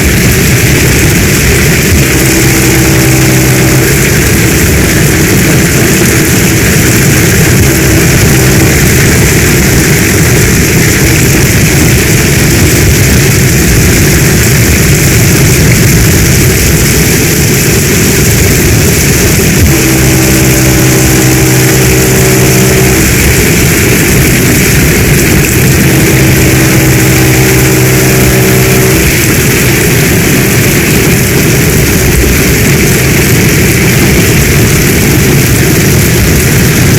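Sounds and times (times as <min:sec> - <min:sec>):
heavy rain pouring: 0:00.0 - 0:36.9
low hum with overtones: 0:00.0 - 0:36.9.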